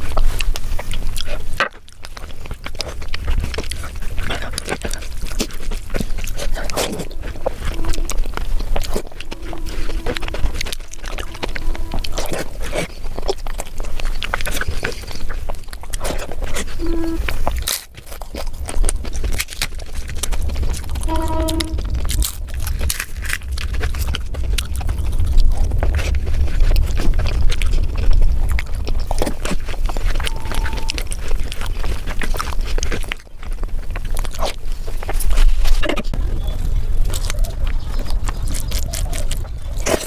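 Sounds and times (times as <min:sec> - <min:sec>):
chewing and wet mouth sounds: 0:00.0 - 0:40.0
low rumble: 0:02.1 - 0:40.0.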